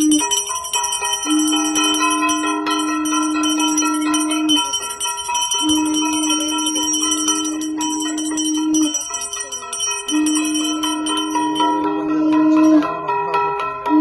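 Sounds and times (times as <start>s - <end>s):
hand bell ringing rapidly: 0.0s - 12.2s
long steady low tone: 0.0s - 13.0s.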